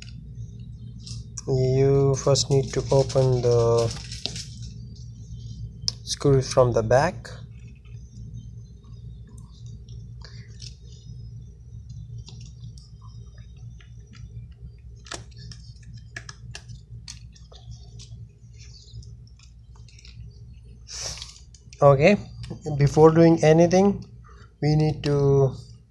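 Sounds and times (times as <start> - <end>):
low electrical hum: 0.0 - 25.9.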